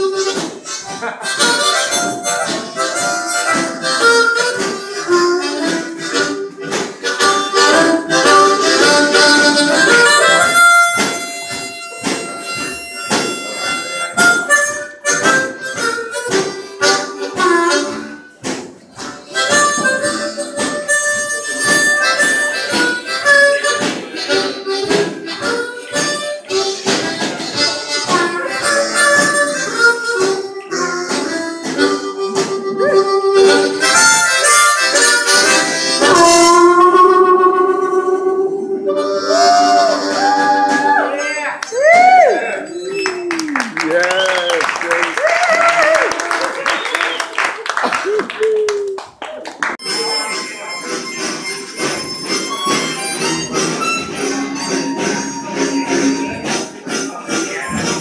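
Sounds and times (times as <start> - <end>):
harmonicas playing chords: 0.0 - 41.0, 49.8 - 58.0.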